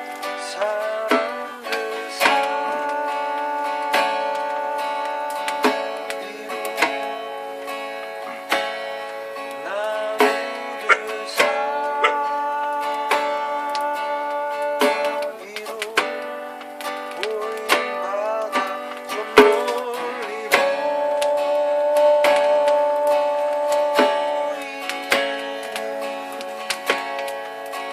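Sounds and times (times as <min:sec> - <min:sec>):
acoustic guitar strumming: 0:00.0 - 0:27.9.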